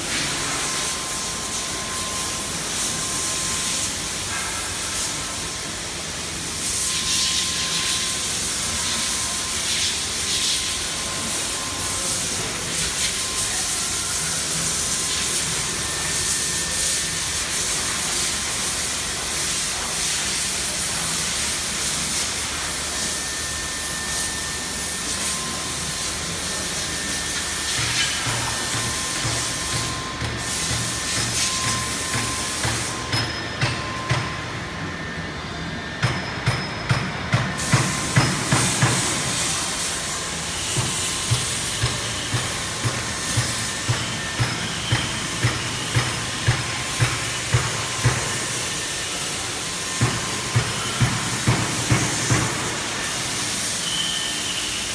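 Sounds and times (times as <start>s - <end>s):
hissing machinery: 0.0s - 54.9s.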